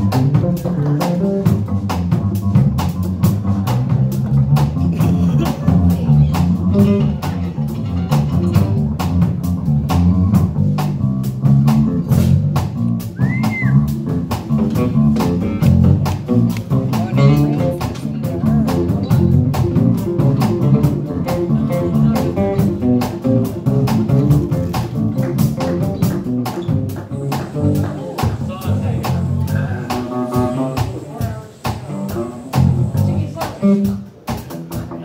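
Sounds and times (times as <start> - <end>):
acoustic and electric guitars: 0.0 - 35.0
bass line: 0.0 - 35.0
drum kit beat: 0.0 - 35.0.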